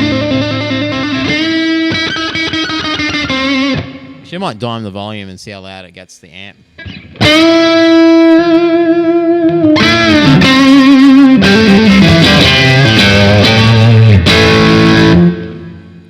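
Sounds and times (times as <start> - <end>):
overdriven electric guitar: 0.0 - 4.3, 6.6 - 16.0.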